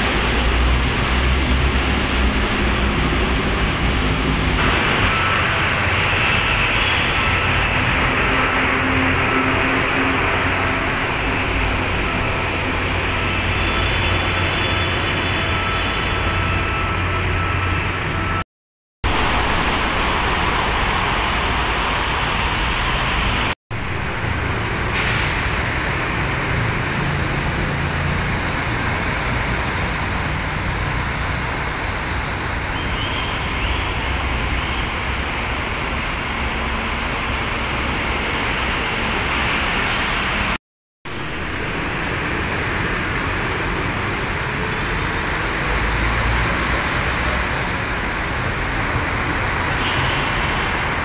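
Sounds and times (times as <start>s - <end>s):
truck passing with loud hiss: 0.0s - 18.4s, 19.1s - 51.0s
road traffic passing: 0.0s - 51.0s.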